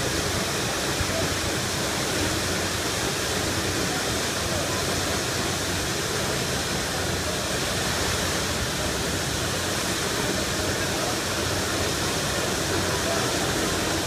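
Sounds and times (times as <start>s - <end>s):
high-pressure water jet rushing: 0.0s - 14.0s.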